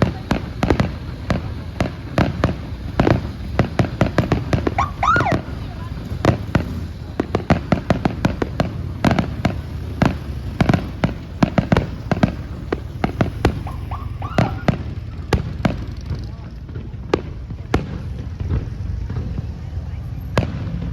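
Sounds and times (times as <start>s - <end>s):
fireworks sharp bangs: 0.0s - 20.9s.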